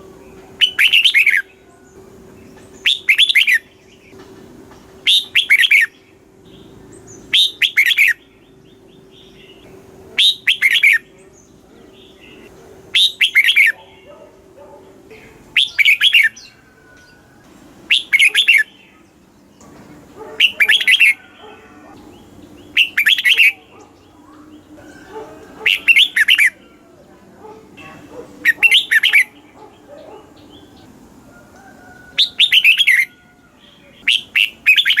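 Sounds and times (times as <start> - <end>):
bird singing bright phrases: 0.0 - 4.2, 5.0 - 26.8, 27.8 - 31.0, 32.2 - 35.0.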